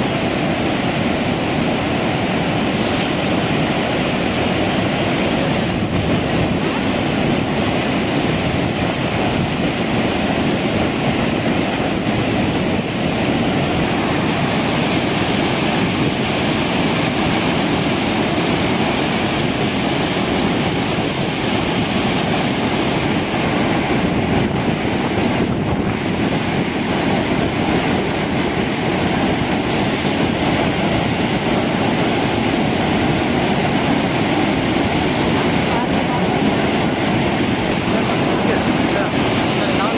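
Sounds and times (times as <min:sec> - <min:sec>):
water rushing from spillway: 0:00.0 - 0:39.9.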